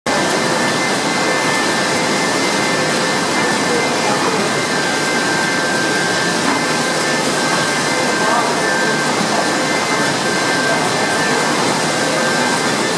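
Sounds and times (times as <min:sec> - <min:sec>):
machinery whirring: 0:00.1 - 0:12.9.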